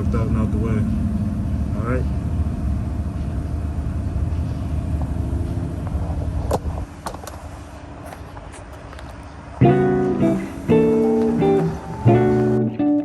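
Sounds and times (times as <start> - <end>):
vehicle engine rumble: 0.0 - 12.7.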